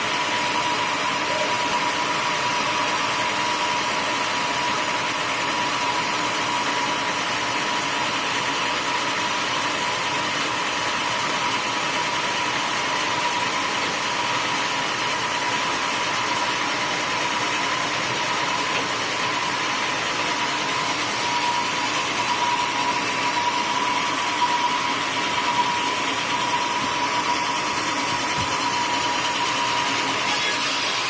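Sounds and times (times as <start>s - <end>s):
high machine whine: 0.0s - 31.0s
sawmill machine noise: 0.0s - 31.0s.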